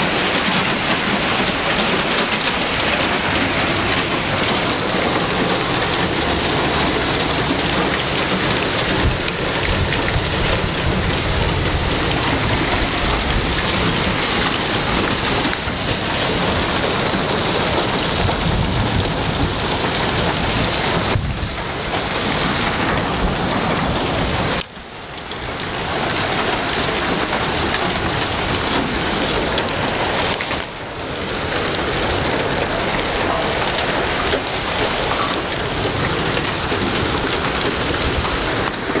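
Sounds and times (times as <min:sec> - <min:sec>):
hail and rain pelting ground: 0:00.0 - 0:39.0.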